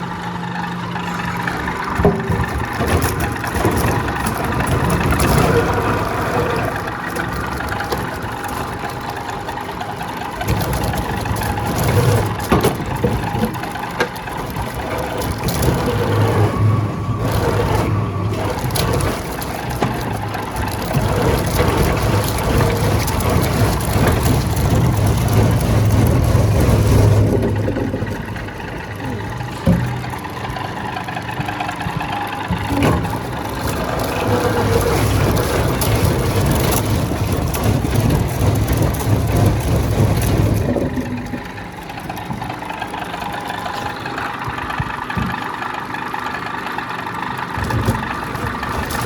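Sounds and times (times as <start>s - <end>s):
heavy machinery humming and rushing: 0.0s - 49.0s.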